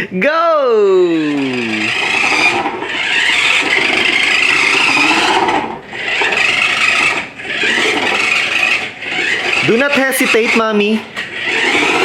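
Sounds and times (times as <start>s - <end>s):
toy car motor whirring: 1.1s - 12.0s.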